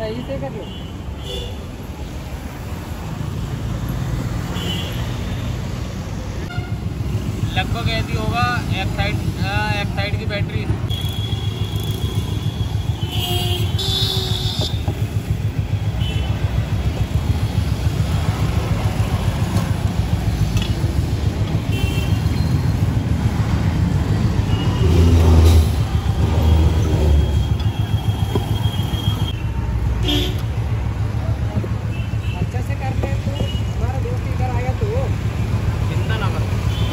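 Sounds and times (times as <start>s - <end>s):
vehicle rumbling on road: 0.0s - 36.9s.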